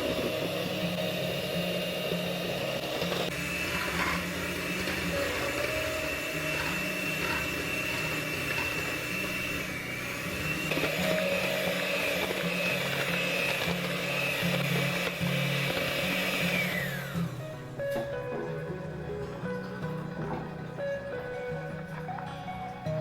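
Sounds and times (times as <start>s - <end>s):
kitchen appliance motor whining: 0.0s - 18.6s.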